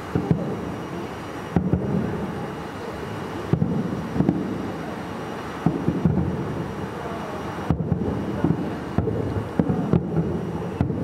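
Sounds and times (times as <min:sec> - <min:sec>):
background hiss: 0:00.0 - 0:11.0
distant fireworks booming: 0:00.0 - 0:11.0.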